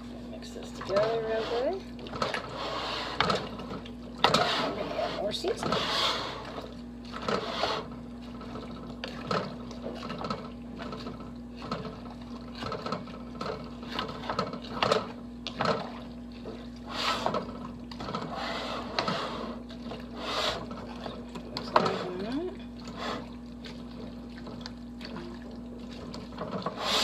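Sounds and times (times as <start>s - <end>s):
thick liquid sloshing: 0.0s - 27.0s
wooden spoon scraping a pot: 0.7s - 15.9s, 16.8s - 23.4s.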